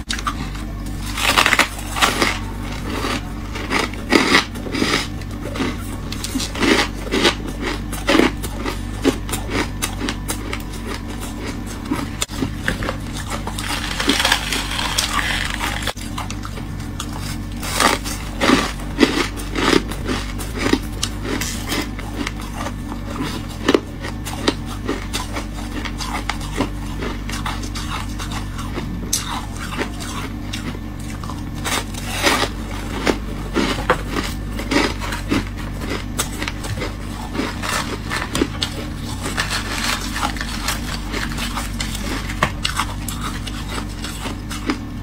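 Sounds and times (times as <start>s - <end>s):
frost crunching as chewed: 0.0s - 45.0s
steady low hum: 0.0s - 45.0s.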